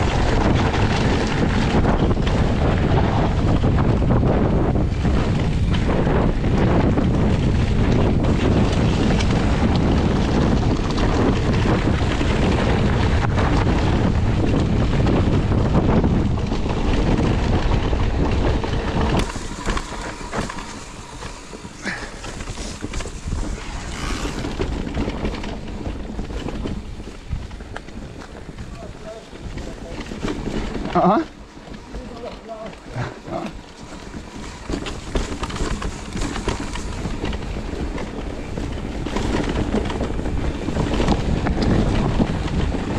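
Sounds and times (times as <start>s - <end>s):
bike clicks and rattles: 0.0s - 42.9s
bike tyres rolling on gravel: 0.0s - 42.9s
tyres on dirt trail: 0.0s - 42.9s
wind buffeting microphone: 0.0s - 42.9s.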